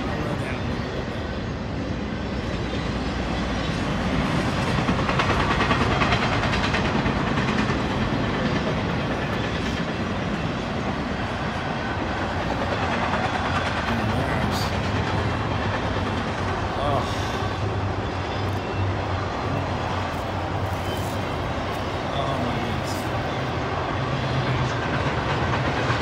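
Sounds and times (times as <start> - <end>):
steel wheels rolling on rails: 0.0 - 26.0.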